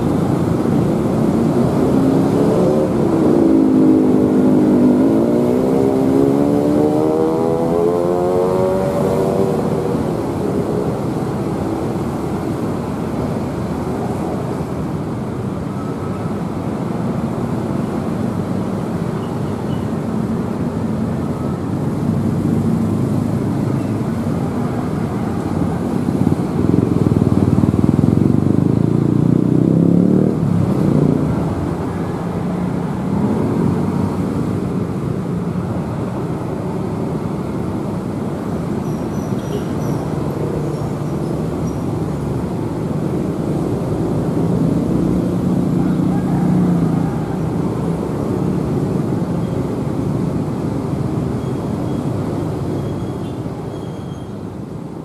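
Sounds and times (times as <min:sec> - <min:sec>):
motorcycles running: 0:00.0 - 0:55.0
road traffic noise: 0:00.0 - 0:55.0.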